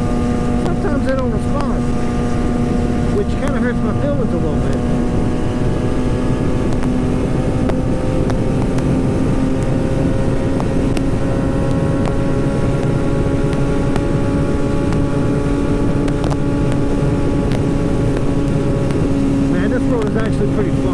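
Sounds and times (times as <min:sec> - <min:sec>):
motorcycle engine running: 0:00.0 - 0:20.9
wind rushing over microphone: 0:00.0 - 0:20.9.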